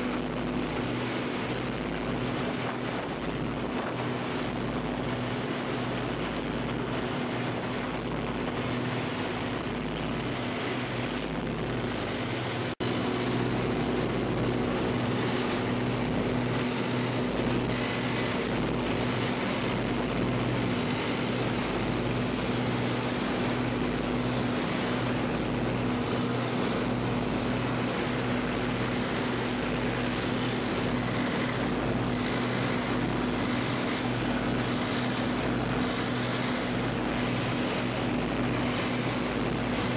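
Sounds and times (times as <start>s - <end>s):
motorboat engine droning: 0.0s - 39.9s
water rushing past hull: 0.0s - 39.9s.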